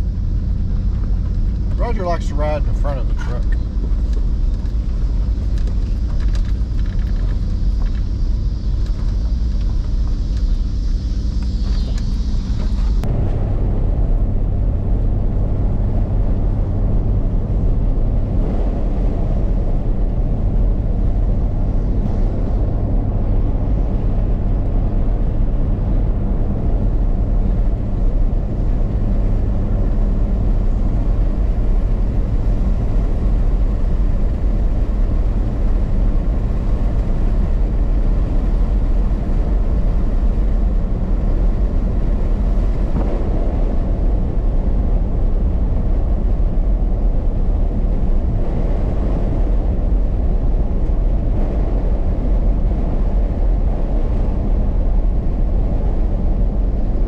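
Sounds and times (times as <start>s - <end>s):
truck engine rumbling: 0.0s - 57.0s
tyres on paved road: 0.0s - 57.0s.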